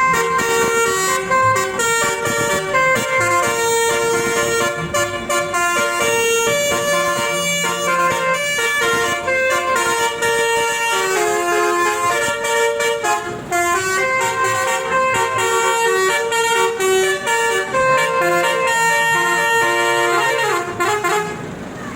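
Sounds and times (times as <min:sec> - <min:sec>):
multi-tone bus horn tune: 0:00.0 - 0:21.9.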